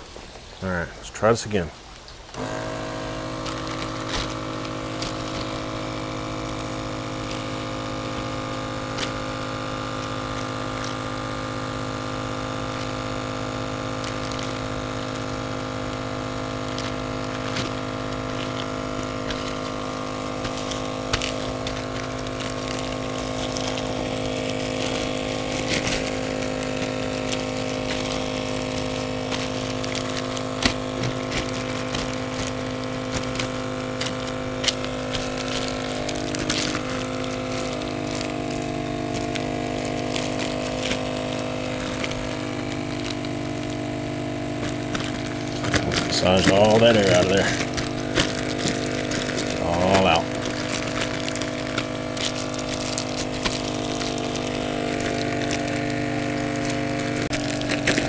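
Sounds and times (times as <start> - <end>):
vacuum sealer pump running: 1.8 - 58.0.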